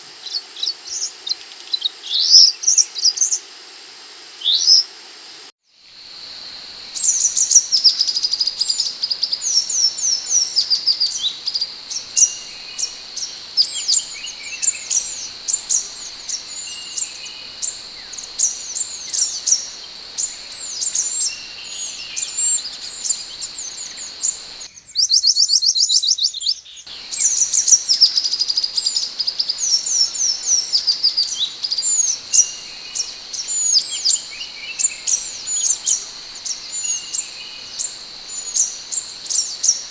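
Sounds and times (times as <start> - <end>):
bird calling in high chirps: 6.7 - 39.9.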